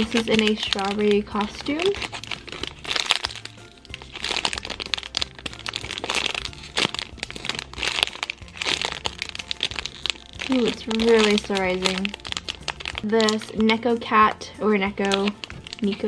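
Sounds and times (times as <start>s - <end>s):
plastic packaging crinkling: 0.0s - 16.0s
soft background music: 0.0s - 16.0s.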